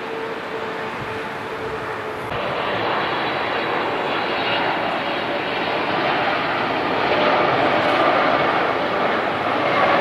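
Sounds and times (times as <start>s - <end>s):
jet airliner engine rumble: 0.0s - 10.0s.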